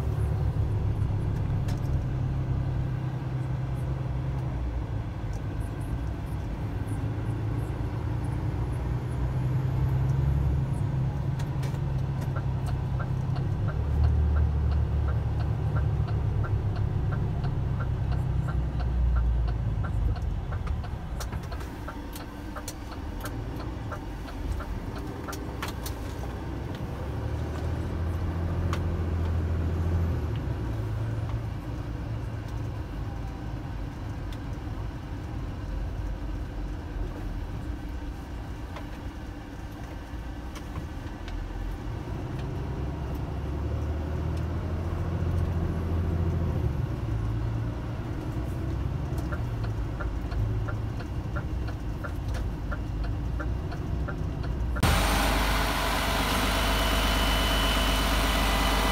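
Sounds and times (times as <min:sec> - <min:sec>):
diesel engine rumble: 0:00.0 - 0:58.9.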